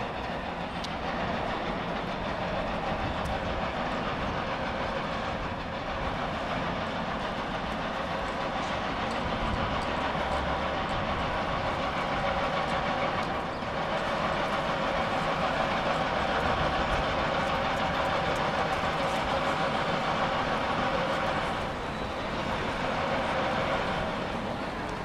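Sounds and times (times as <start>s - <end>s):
crowd noise: 0.0s - 25.0s
traffic: 0.0s - 25.0s
tram humming: 0.0s - 25.0s.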